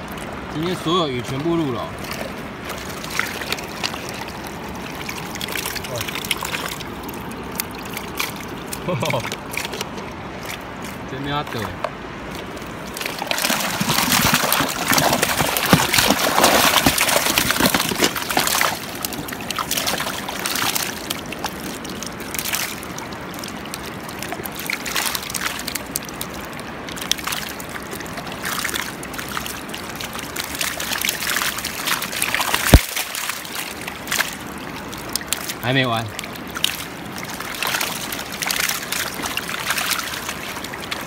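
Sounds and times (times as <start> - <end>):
fish thrashing and splashing: 0.0 - 41.0
stream water splashing around net: 0.0 - 41.0.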